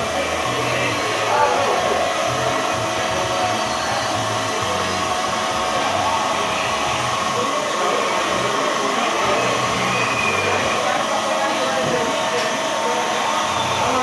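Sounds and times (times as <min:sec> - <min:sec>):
grinding machine whirring: 0:00.0 - 0:14.0.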